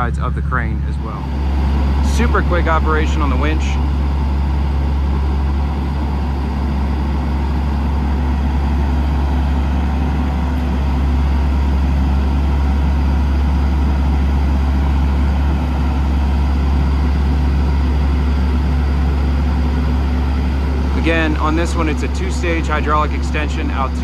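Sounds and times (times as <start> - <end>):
diesel engine idling: 0.0 - 24.0
hydraulic pump drone: 0.0 - 24.0.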